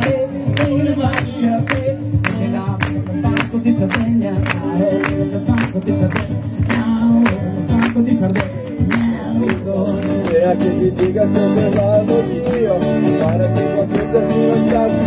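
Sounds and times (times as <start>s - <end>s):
men singing: 0.0s - 15.0s
steady percussive beat: 0.0s - 15.0s
strummed acoustic guitars: 0.0s - 15.0s.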